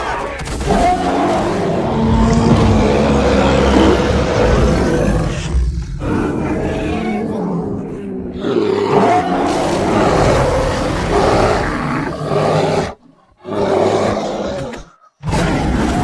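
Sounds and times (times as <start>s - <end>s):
bear roaring: 0.6s - 16.0s.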